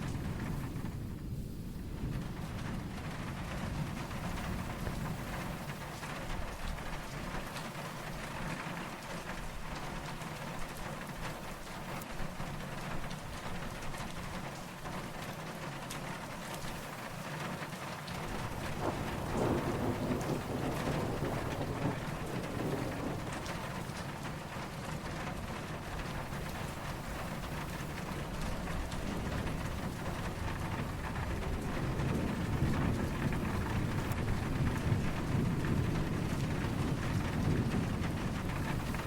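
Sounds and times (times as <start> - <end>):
distant thunder rumble: 0.0 - 10.6, 18.0 - 39.0
rain drops ticking on a surface: 0.0 - 39.0.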